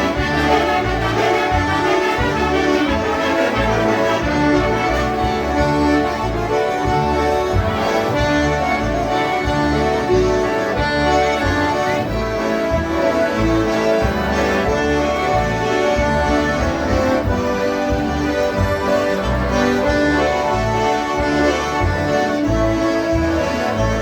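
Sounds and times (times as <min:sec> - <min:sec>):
concertinas playing a polka: 0:00.0 - 0:24.0.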